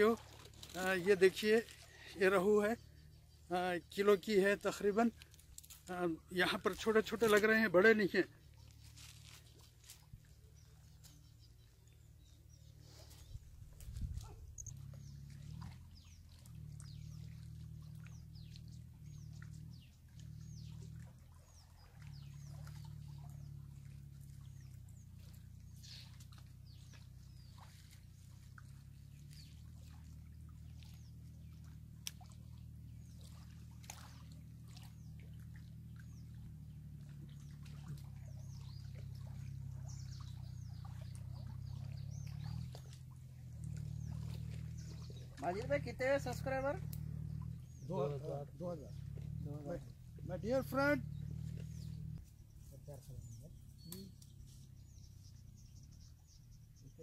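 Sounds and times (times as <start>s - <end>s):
small birds chirping: 0.0s - 57.0s
steady low hum: 10.0s - 56.8s.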